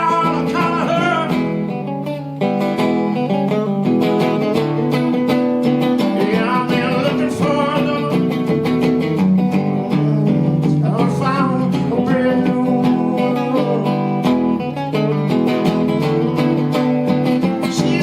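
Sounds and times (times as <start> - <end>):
bent guitar lead notes: 0.0 - 18.0
blues guitar strumming: 0.0 - 18.0.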